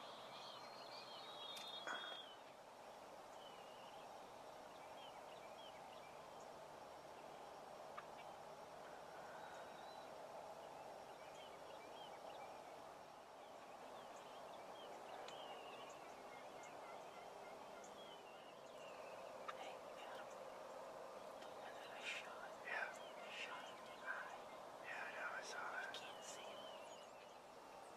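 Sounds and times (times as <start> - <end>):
steady background noise: 0.0 - 27.9.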